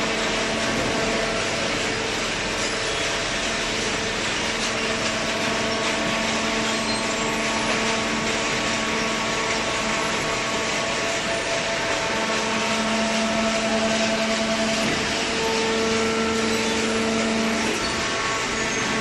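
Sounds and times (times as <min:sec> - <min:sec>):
baler machine running: 0:00.0 - 0:19.0
machine hum: 0:00.0 - 0:19.0.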